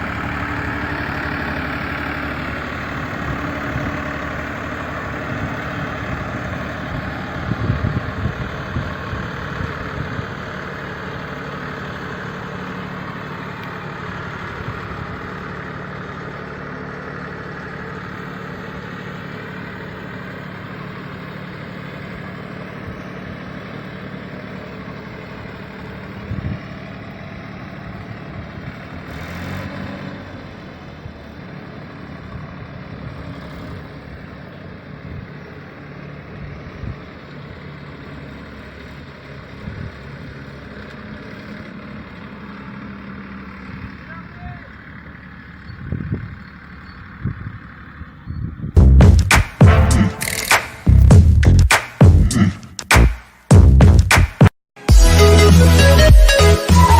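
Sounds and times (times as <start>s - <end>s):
diesel tractor engine running: 0.0s - 56.9s.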